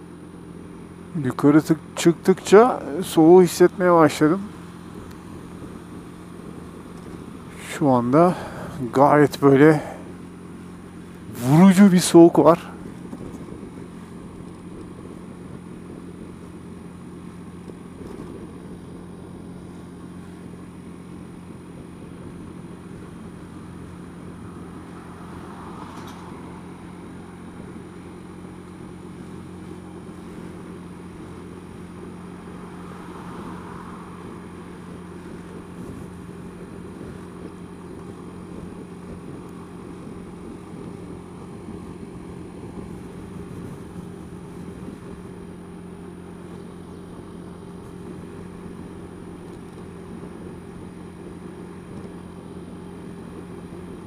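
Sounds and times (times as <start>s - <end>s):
road and wind noise: 0.0s - 54.0s
scooter engine running: 0.0s - 54.0s.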